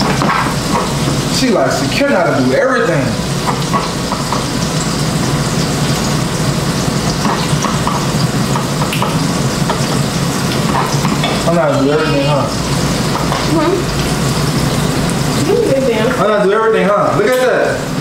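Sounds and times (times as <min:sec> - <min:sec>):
patties sizzling in a pan: 0:00.0 - 0:18.0.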